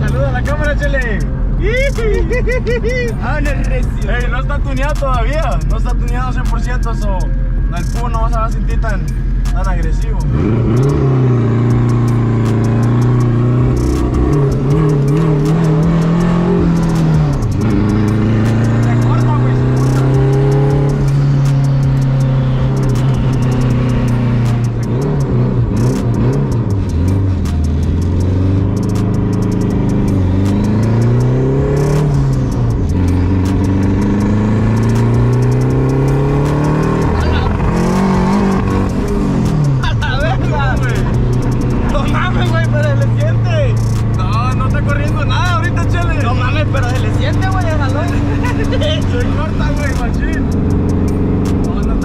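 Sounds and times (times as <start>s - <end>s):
car engine heard from inside cabin: 0.0s - 52.0s
sharp ticks: 0.0s - 52.0s.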